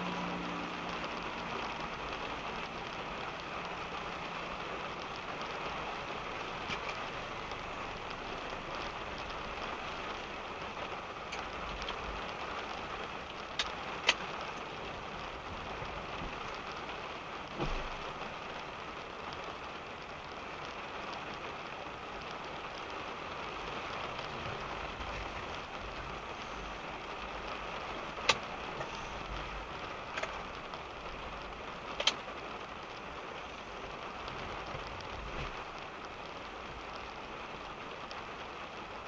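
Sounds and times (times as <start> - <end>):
rain on car roof: 0.0 - 39.0.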